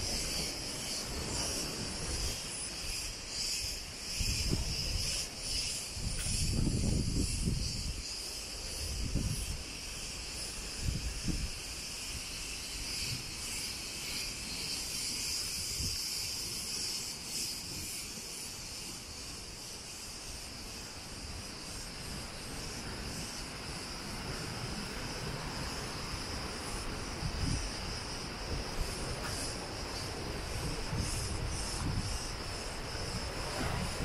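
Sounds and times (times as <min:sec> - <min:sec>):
wind gusts on microphone: 0:00.0 - 0:19.2, 0:19.9 - 0:34.0
cicadas buzzing: 0:00.0 - 0:34.0.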